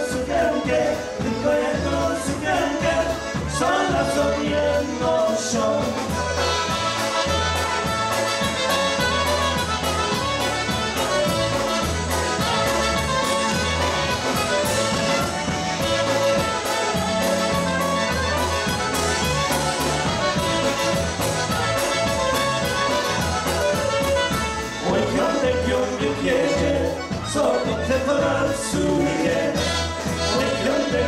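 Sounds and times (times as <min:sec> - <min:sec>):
polka band playing: 0:00.0 - 0:31.0.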